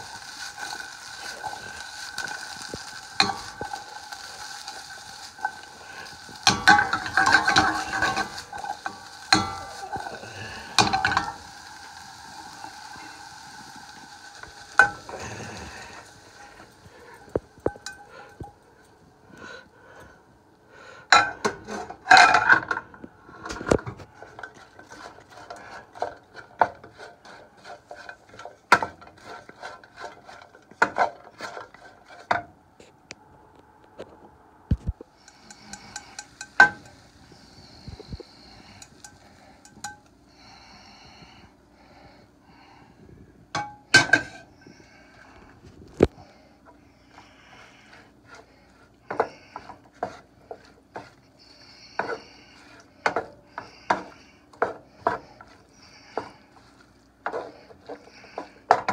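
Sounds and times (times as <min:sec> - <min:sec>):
wooden spatula scraping frying pan: 0:00.0 - 0:18.6, 0:21.1 - 0:32.6, 0:34.8 - 0:40.1, 0:43.6 - 0:44.6, 0:46.7 - 0:58.9.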